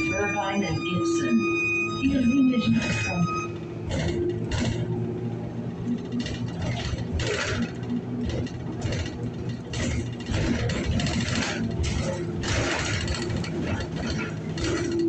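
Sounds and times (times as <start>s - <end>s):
bus running rumble: 0.0s - 15.0s.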